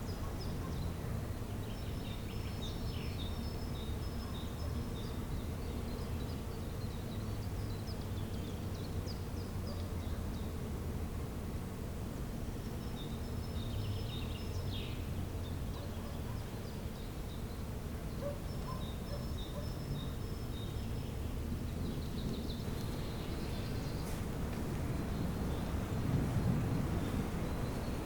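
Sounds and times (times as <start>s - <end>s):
faint songbirds chirping: 0.0s - 28.0s.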